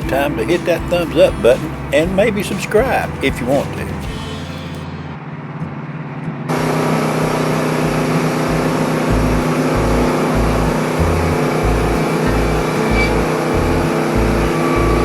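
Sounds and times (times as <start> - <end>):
band sawmill running: 0.0 - 4.9, 6.5 - 15.0.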